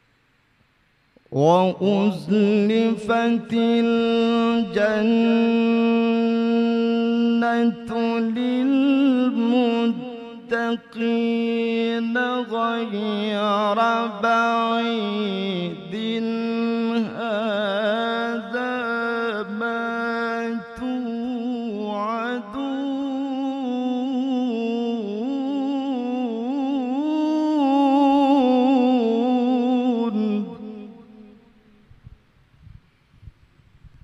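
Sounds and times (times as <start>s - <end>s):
man reciting melodically into microphone: 1.2s - 31.9s.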